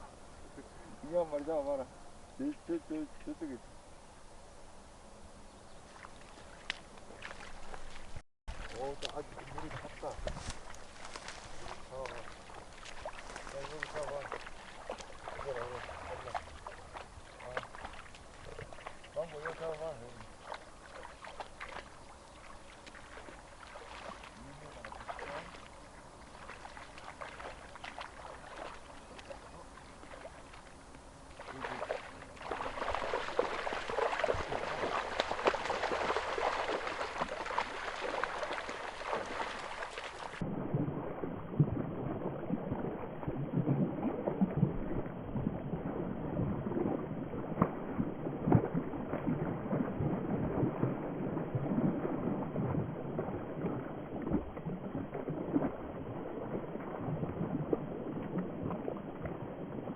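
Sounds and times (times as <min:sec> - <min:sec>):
water splashing in a stream: 0:05.9 - 0:59.9.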